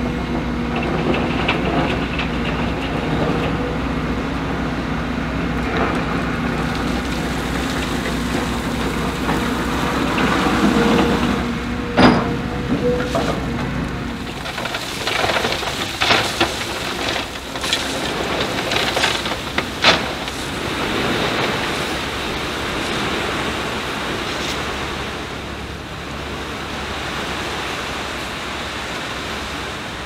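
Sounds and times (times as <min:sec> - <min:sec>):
gravel pouring from truck: 0:00.0 - 0:29.9.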